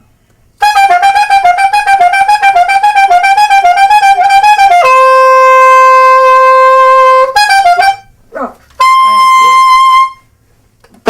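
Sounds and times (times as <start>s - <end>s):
saxophone long held tone: 0.6s - 8.1s, 8.8s - 10.3s
soprano saxophone staccato notes: 0.6s - 10.3s.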